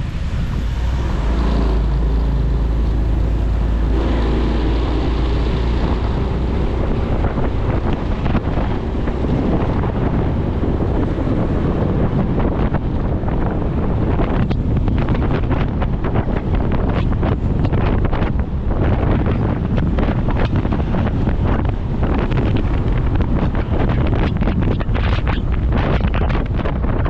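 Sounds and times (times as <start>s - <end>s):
motorcycle engine: 0.0s - 25.5s
road noise: 0.0s - 27.0s
wind buffeting microphone: 0.0s - 27.0s.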